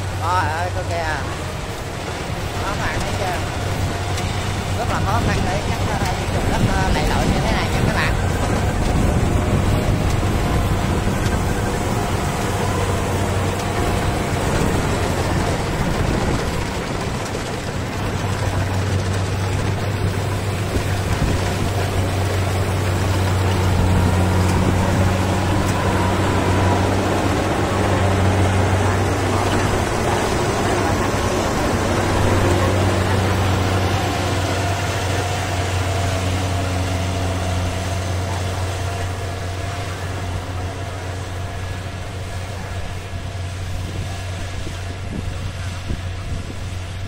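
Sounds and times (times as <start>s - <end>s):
combine harvester humming: 0.0s - 47.0s.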